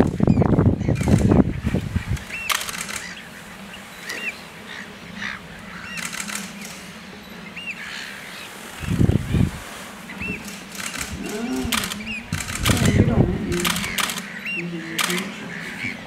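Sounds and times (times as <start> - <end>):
crackling rustles: 0.0 - 15.9.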